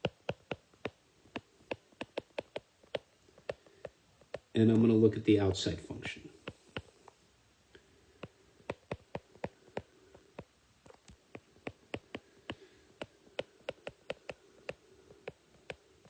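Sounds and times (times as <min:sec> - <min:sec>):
stylus tapping on tablet screen: 0:00.0 - 0:04.8, 0:06.4 - 0:07.0, 0:08.2 - 0:15.8.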